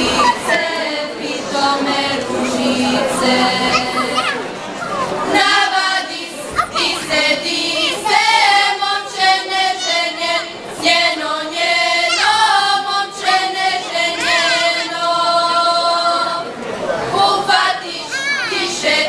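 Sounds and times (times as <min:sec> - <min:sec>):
female group singing unaccompanied: 0:00.0 - 0:04.5, 0:05.2 - 0:19.0.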